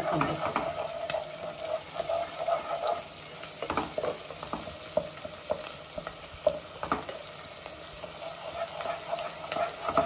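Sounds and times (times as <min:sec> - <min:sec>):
onions sizzling in hot oil: 0:00.0 - 0:10.0
wooden spatula stirring and scraping: 0:00.0 - 0:10.0.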